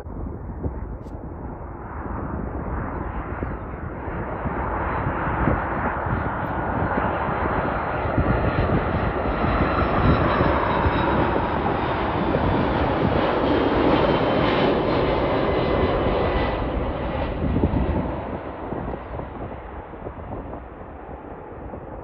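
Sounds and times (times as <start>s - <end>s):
jet airliner engines whining: 0.0s - 22.0s.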